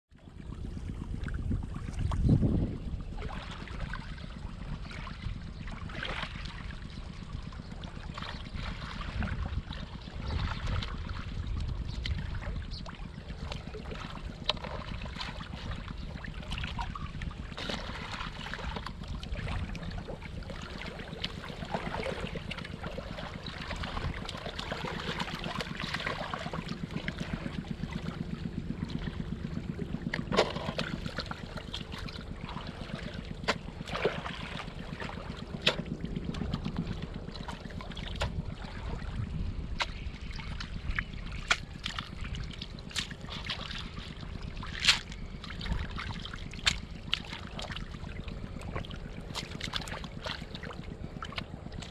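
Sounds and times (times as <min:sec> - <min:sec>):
wind rumble on microphone: 0:00.1 - 0:51.9
muddy water sloshing: 0:00.2 - 0:51.9
small splashes: 0:08.0 - 0:51.9.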